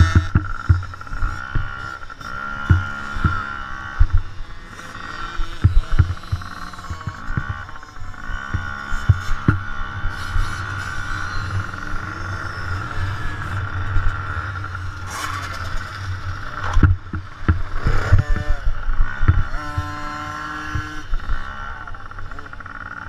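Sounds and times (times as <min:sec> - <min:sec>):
sharp thumps: 0:00.0 - 0:04.4, 0:05.4 - 0:07.8, 0:08.4 - 0:21.4
dirt bike engines revving: 0:00.0 - 0:23.0.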